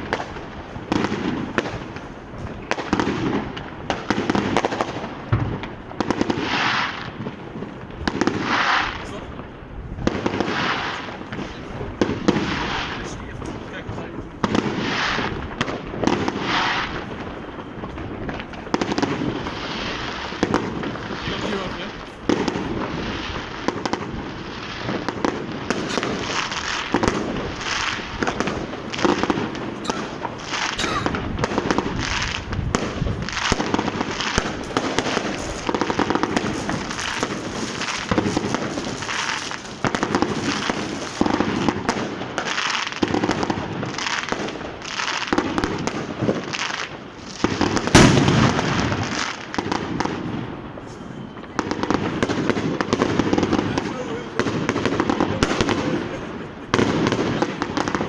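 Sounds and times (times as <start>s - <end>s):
firecracker crackling and pops: 0.0s - 58.0s
fireworks bangs: 0.0s - 58.0s.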